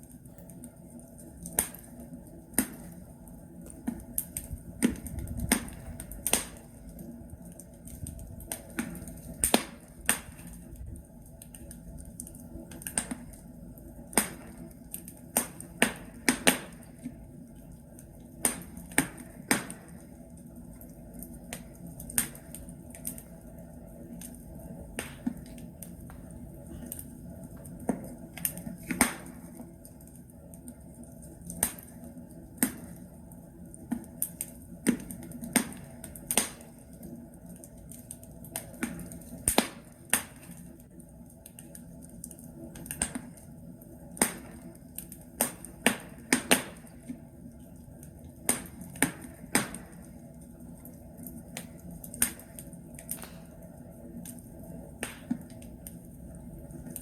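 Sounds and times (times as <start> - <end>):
fireplace logs crackling and popping: 0.0 - 57.0.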